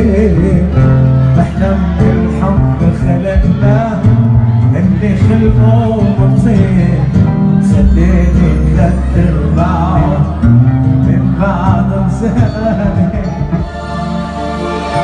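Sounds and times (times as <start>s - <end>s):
instrumental backing with plucked strings: 0.0s - 15.0s
man singing ornamented notes: 0.0s - 15.0s.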